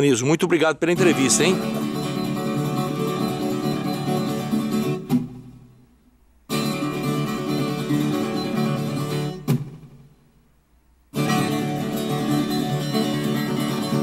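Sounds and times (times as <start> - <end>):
plucked and strummed guitar: 0.5 - 10.4, 11.1 - 14.0.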